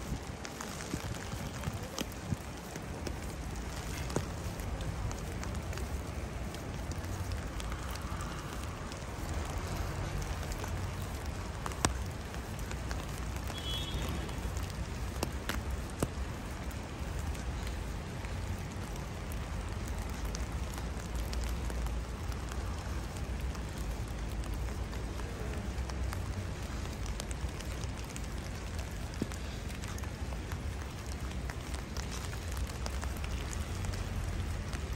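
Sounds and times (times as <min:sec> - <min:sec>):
sleet and rain falling: 0:00.0 - 0:34.9.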